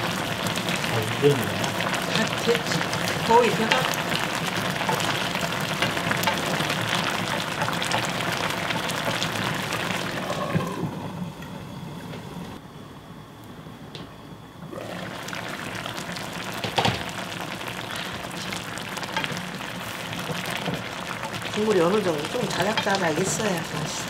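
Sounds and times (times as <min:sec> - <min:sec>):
fish braise bubbling and sizzling: 0:00.0 - 0:12.6, 0:14.6 - 0:24.0.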